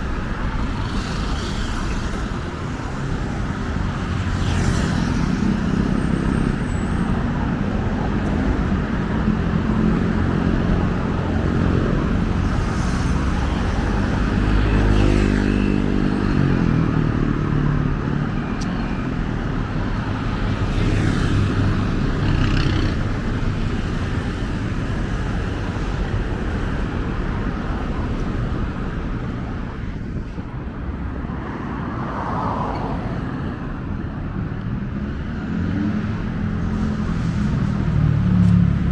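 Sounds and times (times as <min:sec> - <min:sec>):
road traffic passing: 0:00.0 - 0:38.9.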